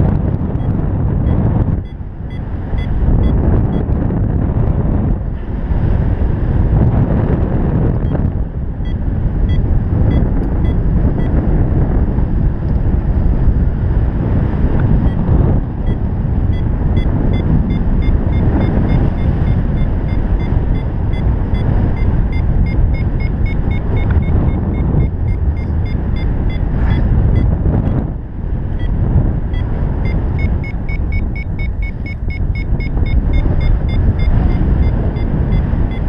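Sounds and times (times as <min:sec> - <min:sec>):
variometer beeping: 0:00.0 - 0:04.1, 0:07.9 - 0:11.5, 0:14.7 - 0:36.0
wind rushing over microphone: 0:00.0 - 0:36.0.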